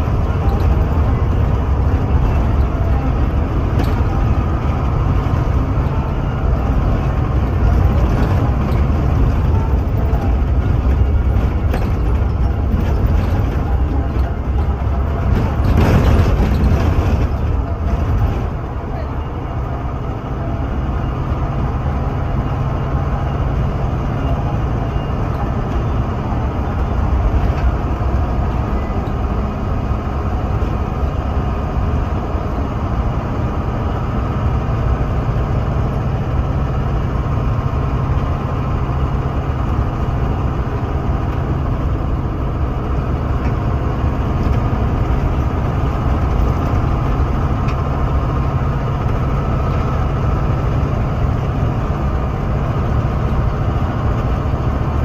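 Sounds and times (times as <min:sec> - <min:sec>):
bus engine: 0:00.0 - 0:55.0
road noise: 0:00.0 - 0:55.0.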